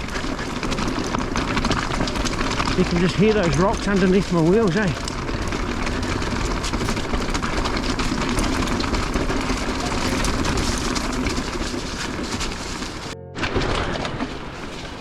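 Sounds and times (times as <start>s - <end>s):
bike clicks and rattles: 0.0s - 15.0s
bike tyres crunching over rocks: 0.0s - 15.0s.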